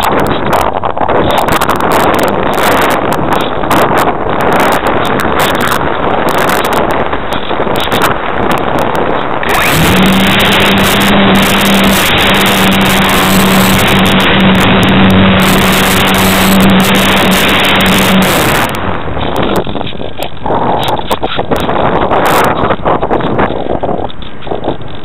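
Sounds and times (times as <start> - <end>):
electric motor and propeller hum: 0.0 - 25.0
wind rush: 0.0 - 25.0.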